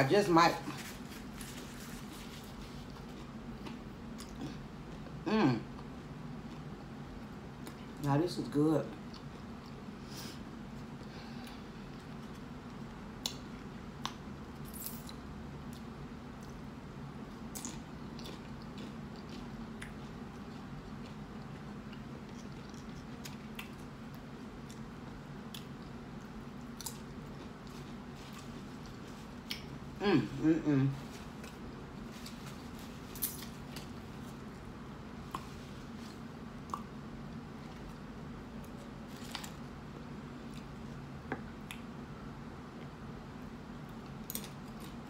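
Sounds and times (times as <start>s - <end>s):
fan and air conditioning hum: 0.0s - 45.0s.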